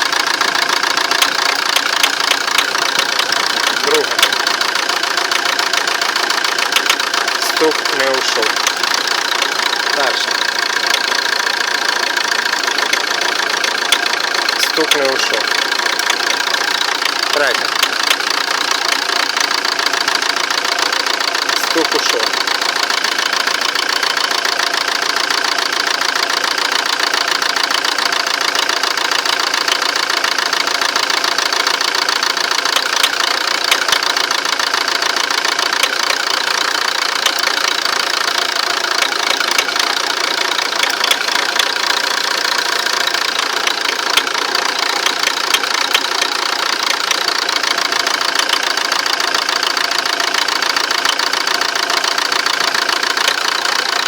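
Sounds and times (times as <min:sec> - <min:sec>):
diesel engine idling: 0:00.0 - 0:54.0
rhythmic engine knock: 0:00.0 - 0:54.0.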